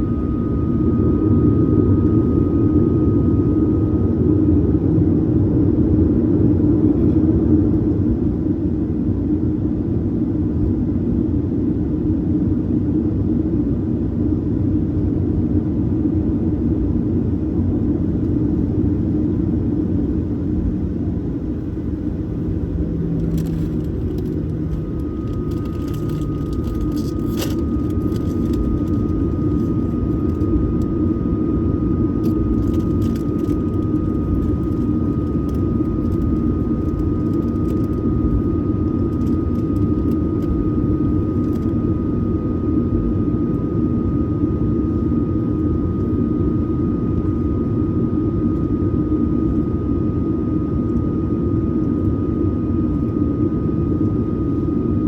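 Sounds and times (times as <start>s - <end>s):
faint steady whine: 0.0s - 55.0s
jet engine cabin drone: 0.0s - 55.0s.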